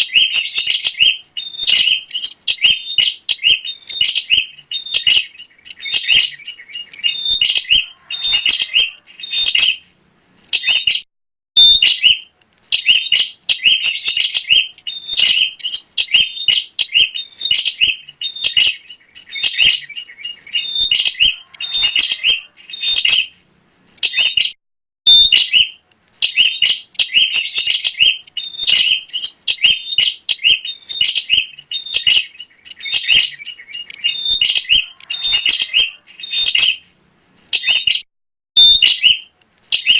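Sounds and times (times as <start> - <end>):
bird chattering chirps: 0.0 - 9.8, 10.4 - 11.0, 11.6 - 24.5, 25.1 - 36.8, 37.4 - 38.0, 38.6 - 39.9.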